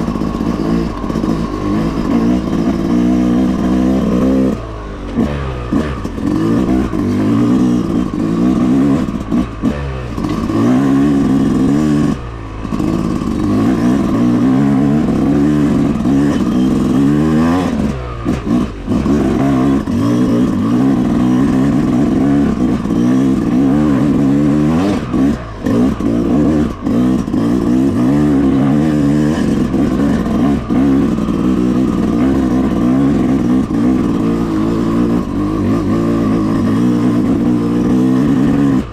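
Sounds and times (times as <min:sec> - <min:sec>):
dirt bike engine lugging uphill: 0:00.0 - 0:38.9.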